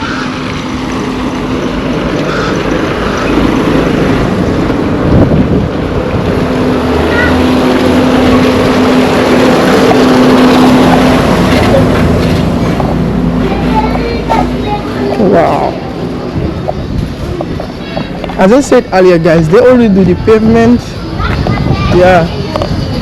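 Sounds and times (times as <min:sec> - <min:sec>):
vehicle engine passing by: 0:00.0 - 0:19.4.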